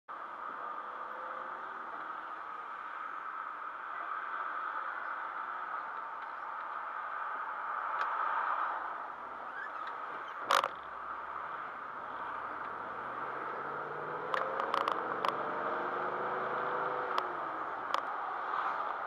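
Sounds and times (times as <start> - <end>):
car road and engine hum: 0.1 - 19.0.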